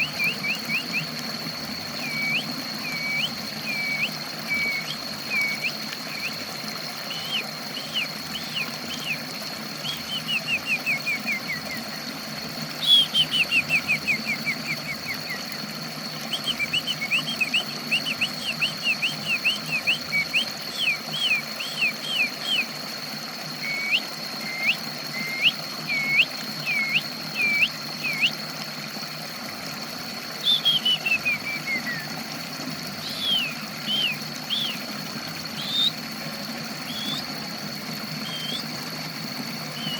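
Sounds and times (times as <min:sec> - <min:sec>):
songbird whistling: 0:00.0 - 0:12.1, 0:12.7 - 0:22.8, 0:23.5 - 0:28.4, 0:30.3 - 0:32.2, 0:33.0 - 0:36.0, 0:36.8 - 0:37.4, 0:38.1 - 0:38.8, 0:39.5 - 0:39.9.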